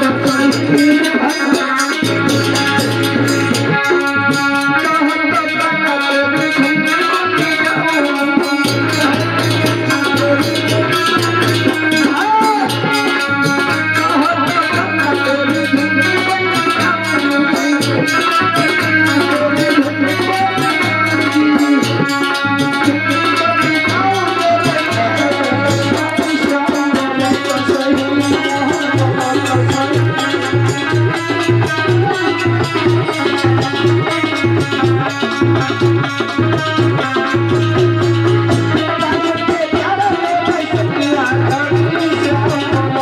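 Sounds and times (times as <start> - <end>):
hand percussion: 0.0 - 43.0
instrumental accompaniment: 0.0 - 43.0
man singing: 0.0 - 43.0.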